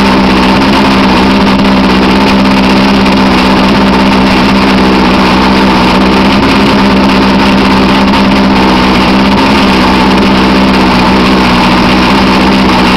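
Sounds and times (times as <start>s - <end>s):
outboard motor running: 0.0s - 12.9s.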